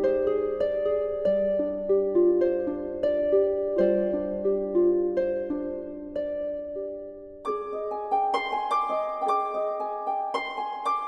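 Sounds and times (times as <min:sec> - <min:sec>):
plucked notes instrumental music: 0:00.0 - 0:11.0.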